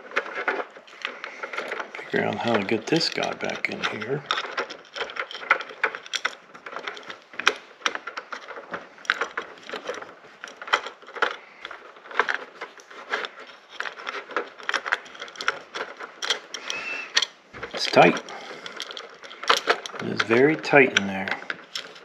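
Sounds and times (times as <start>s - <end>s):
bead chain clinking and rattling: 0.0s - 22.0s.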